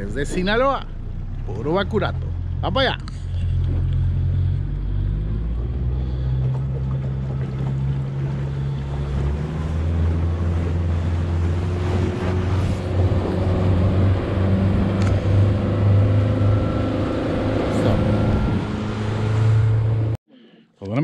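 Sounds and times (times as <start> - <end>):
boat motor running: 0.0 - 20.2
water noise: 0.0 - 20.2.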